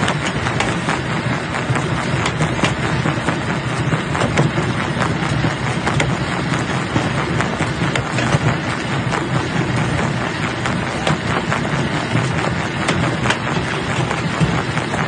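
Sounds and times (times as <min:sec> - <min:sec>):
crusher mechanical rumble: 0:00.0 - 0:15.0.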